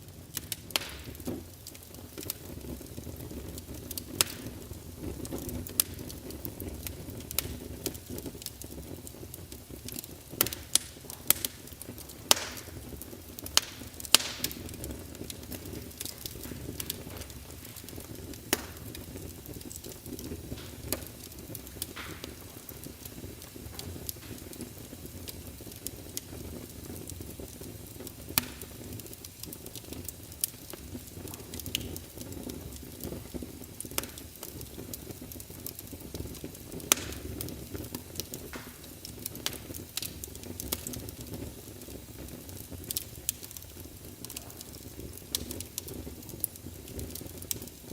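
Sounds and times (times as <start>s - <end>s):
fire crackling and popping: 0.0s - 47.9s
rumble of flames: 0.0s - 47.9s.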